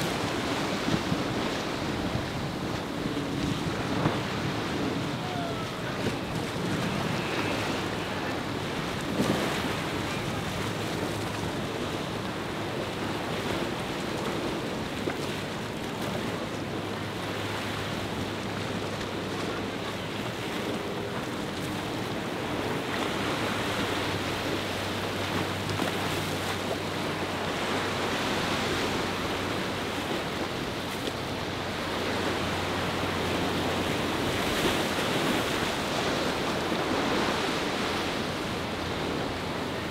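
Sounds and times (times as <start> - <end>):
boat engines droning: 0.0 - 39.9
waves and surf: 0.0 - 39.9
wind buffeting microphone: 0.0 - 39.9.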